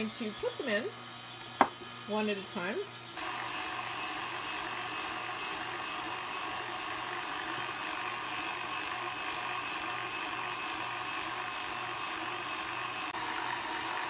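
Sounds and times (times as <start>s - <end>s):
stand mixer motor hum and whine: 0.0s - 14.0s.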